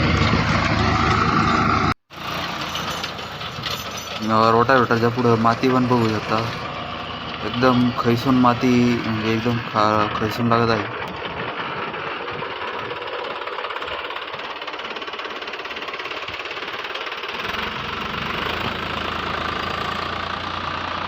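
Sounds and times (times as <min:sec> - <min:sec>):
rotavator gearbox growl: 0:00.0 - 0:21.0
tractor engine under load: 0:00.0 - 0:21.0.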